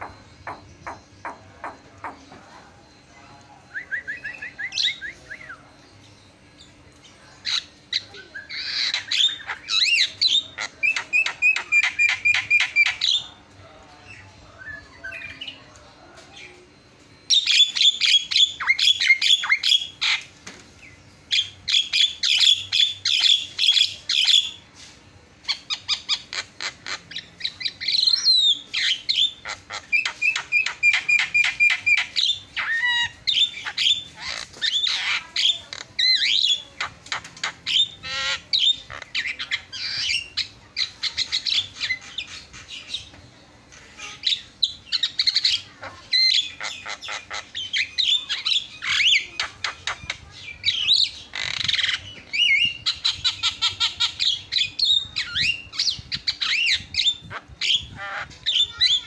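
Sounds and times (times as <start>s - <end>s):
bird singing varied song: 0.0s - 24.7s, 25.4s - 59.0s.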